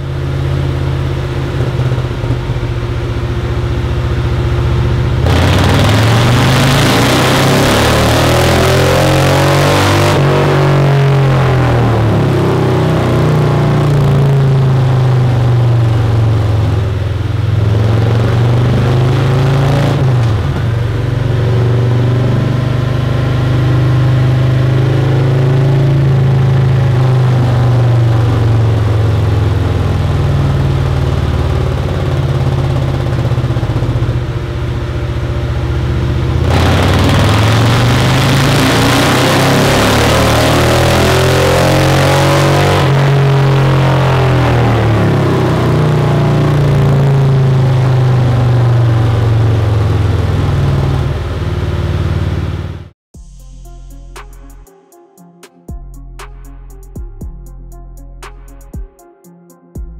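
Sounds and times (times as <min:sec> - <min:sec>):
motorcycle engine revving: 0:00.0 - 0:53.4.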